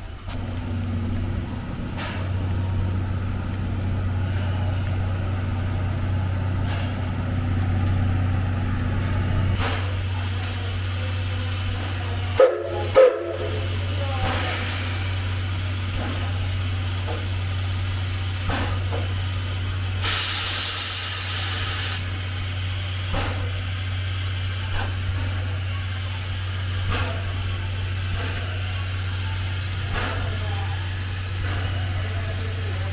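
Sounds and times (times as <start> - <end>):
steam hissing: 0.0 - 32.9
steam locomotive moving: 0.0 - 32.9.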